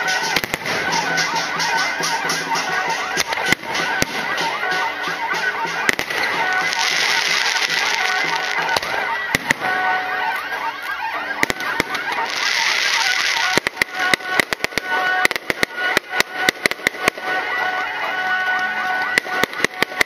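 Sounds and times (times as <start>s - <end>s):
firework bangs: 0.0s - 20.0s
firework whistles shrieking: 0.0s - 20.0s.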